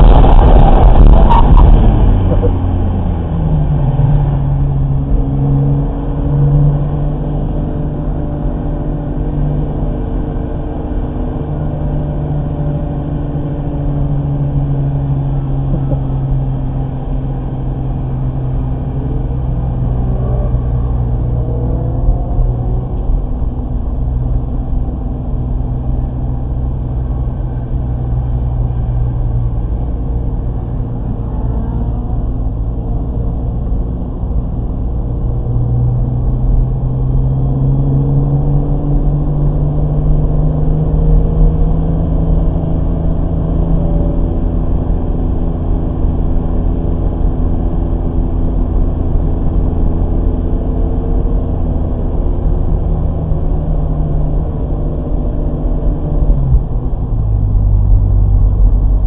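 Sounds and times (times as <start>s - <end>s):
car engine running hard: 0.0s - 59.0s
road and wind noise: 0.0s - 59.0s.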